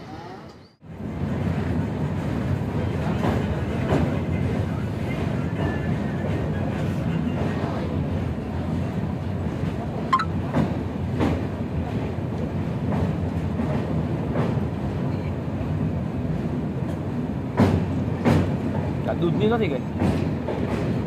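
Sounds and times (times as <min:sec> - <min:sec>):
rumble of train wheels on rails: 0:00.8 - 0:21.0.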